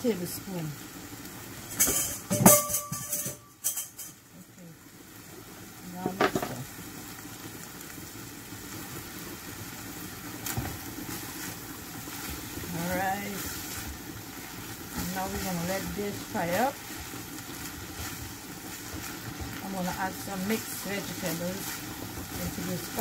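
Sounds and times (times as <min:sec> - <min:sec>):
meat sizzling in a pan: 0:00.0 - 0:23.0.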